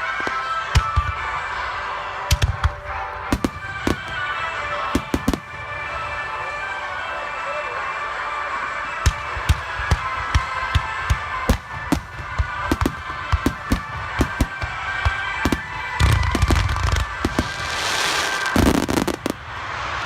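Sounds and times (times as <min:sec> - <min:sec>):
fireworks bursting: 0:00.0 - 0:06.3, 0:08.8 - 0:20.0
fireworks crackling: 0:00.0 - 0:07.1, 0:07.9 - 0:20.0.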